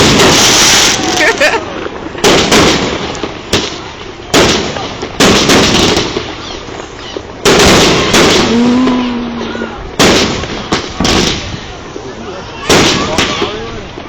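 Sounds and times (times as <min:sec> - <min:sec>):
fireworks booming: 0:00.0 - 0:12.0, 0:12.6 - 0:14.0.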